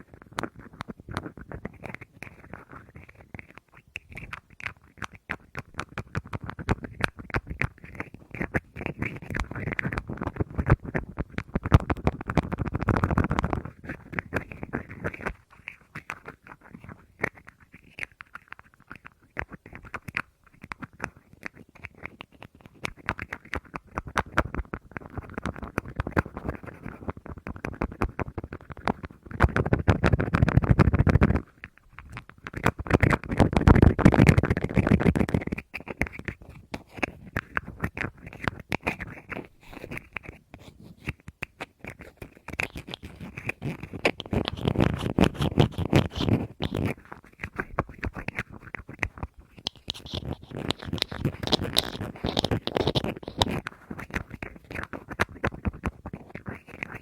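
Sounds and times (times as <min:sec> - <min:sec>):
fingernail scratching and rubbing: 0:00.4 - 0:57.0.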